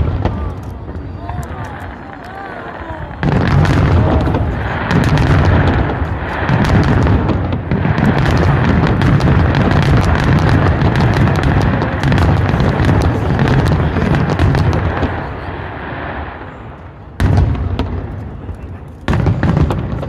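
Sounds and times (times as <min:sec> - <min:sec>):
fireworks booming: 0:00.0 - 0:20.0
fireworks cracks and crackles: 0:00.0 - 0:20.0.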